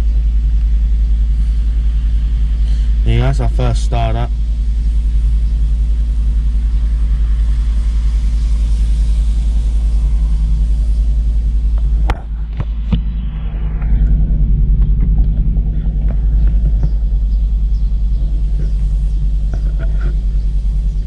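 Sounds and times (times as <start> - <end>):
car engine rumbling: 0.0 - 21.0
engine knocks: 0.0 - 21.0.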